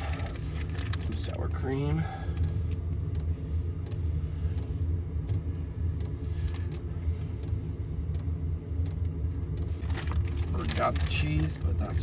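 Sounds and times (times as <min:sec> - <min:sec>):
low mechanical engine hum: 0:00.0 - 0:12.0.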